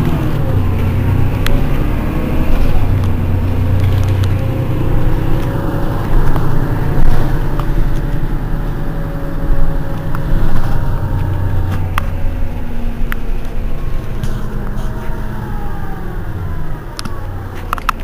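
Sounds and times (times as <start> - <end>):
bus body clicks and rattles: 0.0 - 15.2
bus engine droning: 0.0 - 18.0.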